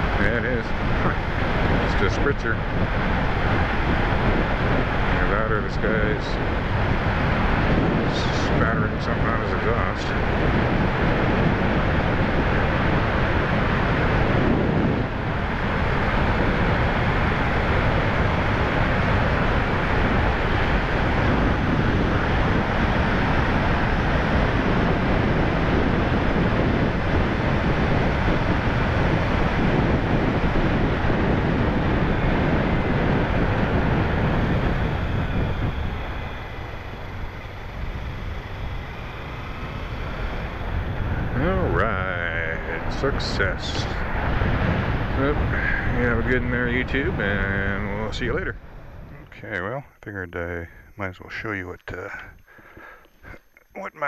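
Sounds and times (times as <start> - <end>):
wind rushing over microphone: 0.0 - 53.6.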